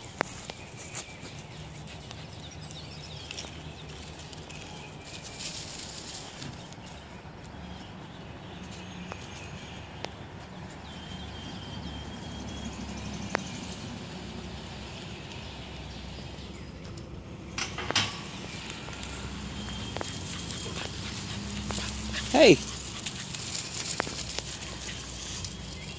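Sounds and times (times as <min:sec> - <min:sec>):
outdoor background noise: 0:00.0 - 0:25.9.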